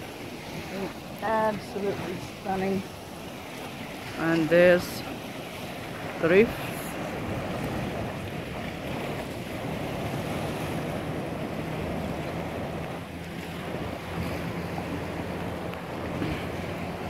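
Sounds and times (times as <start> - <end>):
surf washing against rocks: 0.0 - 17.0
wind noise on microphone: 0.0 - 17.0.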